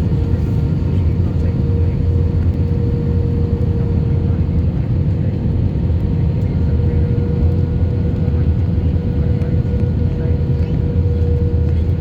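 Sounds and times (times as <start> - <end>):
jet cabin engine rumble: 0.0 - 12.0
mid-pitched hum: 0.0 - 12.0.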